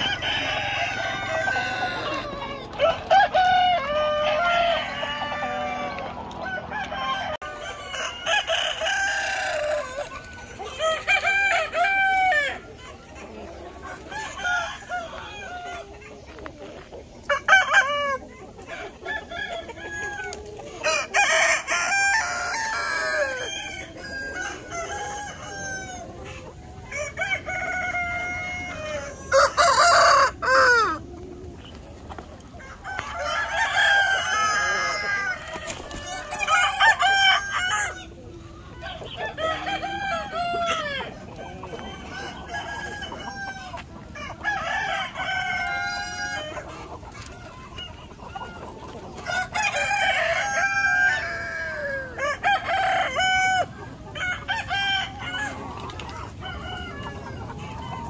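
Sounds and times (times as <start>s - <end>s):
roosters crowing: 0.0s - 16.4s, 17.2s - 31.3s, 32.5s - 58.0s
hens clucking: 0.0s - 58.0s.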